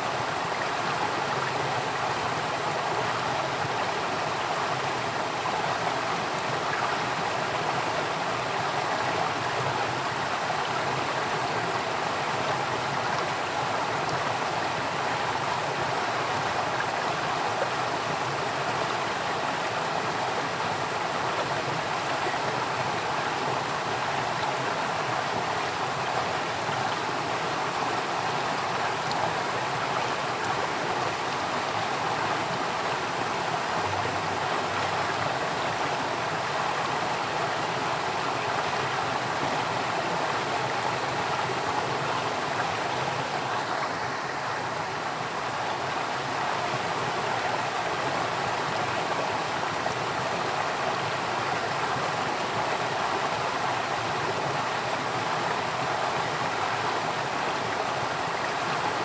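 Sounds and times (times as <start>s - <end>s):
flowing stream water: 0.0s - 59.0s.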